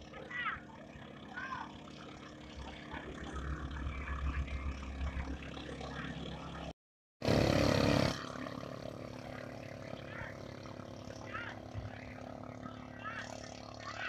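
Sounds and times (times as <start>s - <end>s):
racing boat engines: 0.0s - 14.0s.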